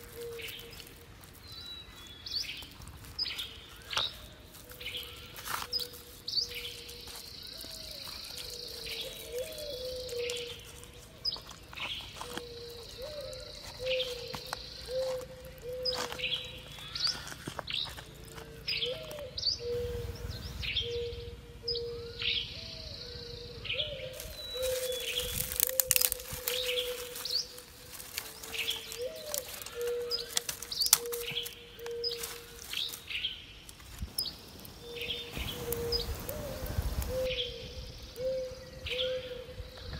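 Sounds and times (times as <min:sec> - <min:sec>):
low hooting bird call: 0:04.6 - 0:11.2, 0:12.0 - 0:33.0, 0:34.8 - 0:39.9.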